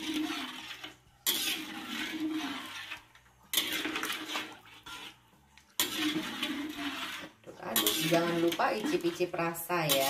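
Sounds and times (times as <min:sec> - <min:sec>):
spatula stirring sauce in wok: 0:00.0 - 0:10.0.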